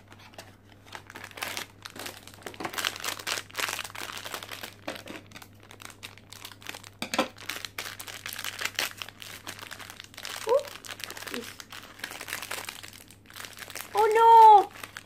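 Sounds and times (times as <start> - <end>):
foil bag crinkling: 0.0 - 15.0.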